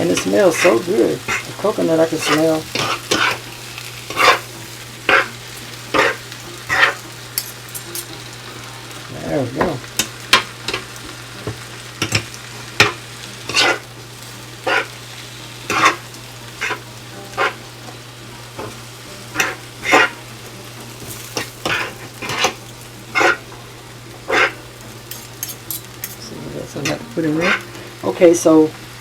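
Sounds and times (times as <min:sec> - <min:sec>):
food sizzling: 0:00.0 - 0:29.0
utensil scraping frying pan: 0:00.0 - 0:29.0.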